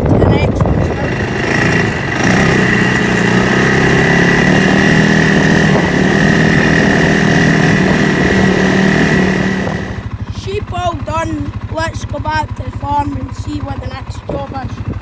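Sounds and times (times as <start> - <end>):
farm vehicle engine running: 0.0 - 15.0.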